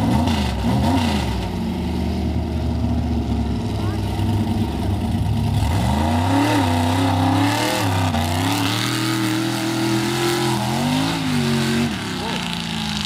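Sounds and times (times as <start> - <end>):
truck engine idling and revving: 0.0 - 13.0.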